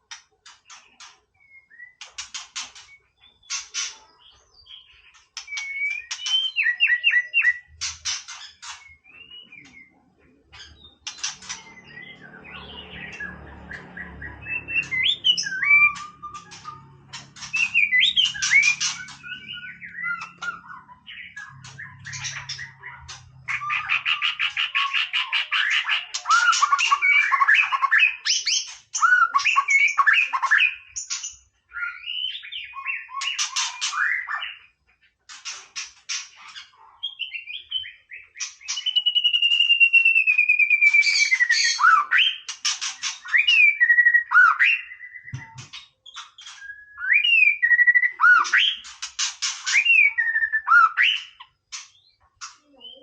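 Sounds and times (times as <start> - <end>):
bird singing varied song: 0.0 - 53.0.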